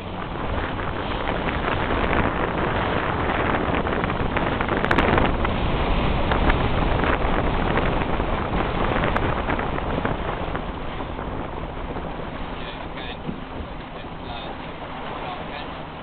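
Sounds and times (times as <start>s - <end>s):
choppy water washing: 0.0s - 16.0s
wind buffeting microphone: 0.0s - 16.0s.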